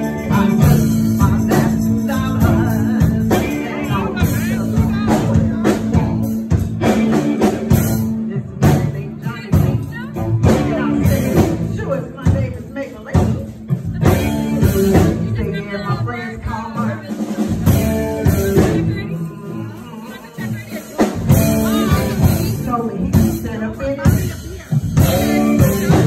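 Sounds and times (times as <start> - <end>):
live band with drum kit: 0.0 - 26.0.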